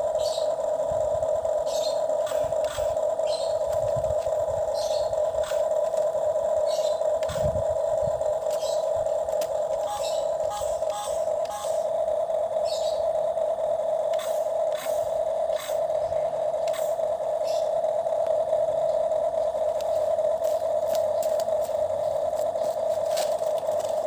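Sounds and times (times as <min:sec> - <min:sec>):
toy excavator motor humming: 0:00.0 - 0:24.0.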